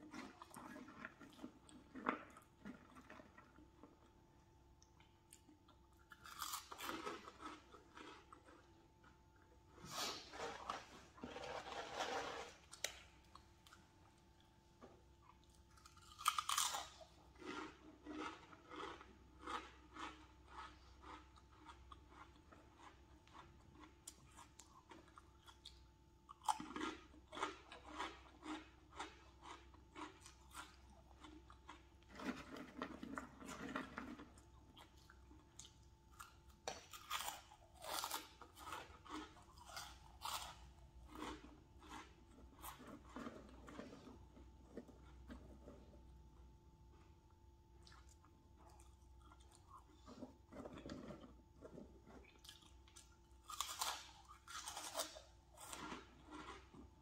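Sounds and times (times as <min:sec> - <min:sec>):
person crunching snack chips: 0:05.4 - 0:14.1, 0:15.3 - 0:45.7, 0:47.8 - 0:57.0.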